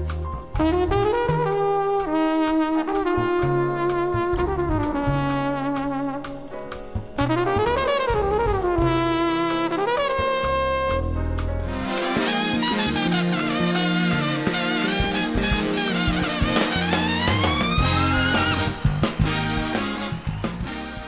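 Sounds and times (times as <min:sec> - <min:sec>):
jazz trumpet solo: 0:00.0 - 0:21.0
low bass notes: 0:00.0 - 0:21.0.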